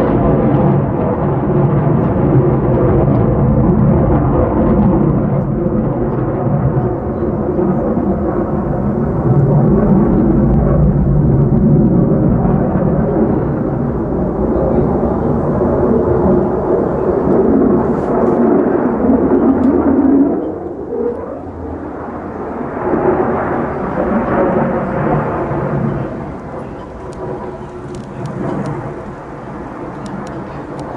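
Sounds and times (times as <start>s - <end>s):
jet roar: 0.0s - 30.9s.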